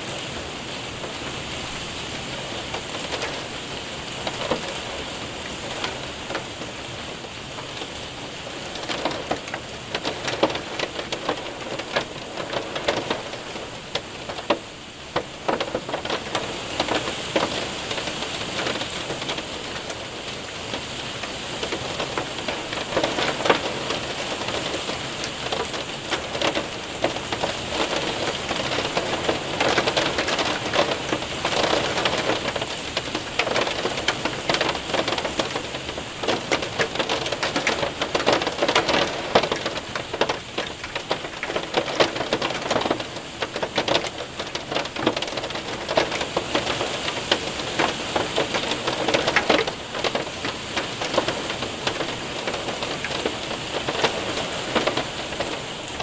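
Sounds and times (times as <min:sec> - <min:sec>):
hailstones ticking and tapping: 0:00.0 - 0:56.0
rain on window and roof: 0:00.0 - 0:56.0.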